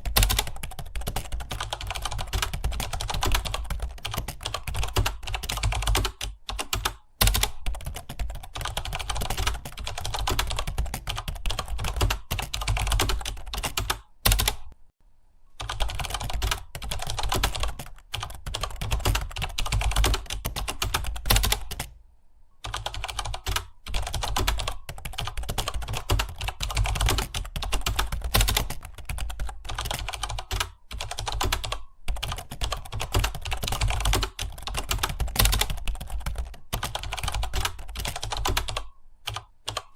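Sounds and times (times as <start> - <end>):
fast keyboard typing: 0.0 - 14.8, 15.6 - 22.0, 22.6 - 39.9.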